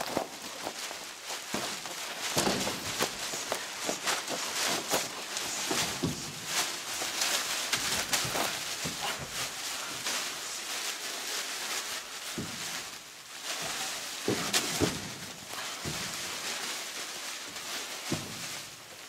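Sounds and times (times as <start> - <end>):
plastic sheeting crinkling: 0.0 - 19.0.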